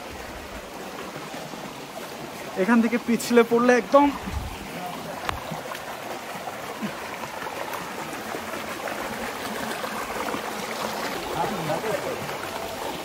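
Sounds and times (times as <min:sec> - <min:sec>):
stream water running over rocks: 0:00.0 - 0:13.0.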